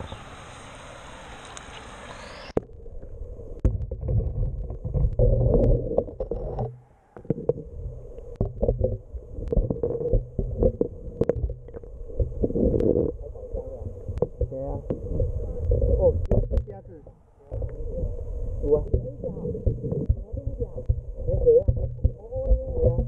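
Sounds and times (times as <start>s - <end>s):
low rumble: 2.2s - 23.0s.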